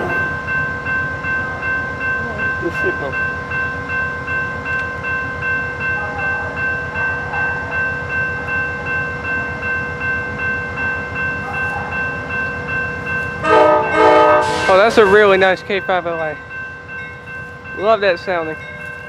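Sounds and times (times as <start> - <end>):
pulsing ringing tone: 0.0 - 19.0.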